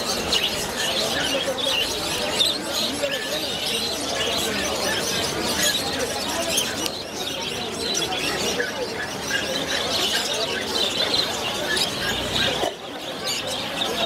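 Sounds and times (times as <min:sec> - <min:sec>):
low background murmur: 0:00.0 - 0:14.0
parrots chirping and squawking: 0:00.0 - 0:14.0.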